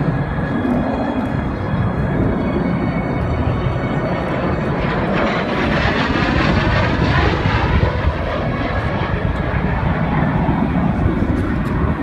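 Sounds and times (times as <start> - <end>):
jet engine roar overhead: 0.0 - 12.0.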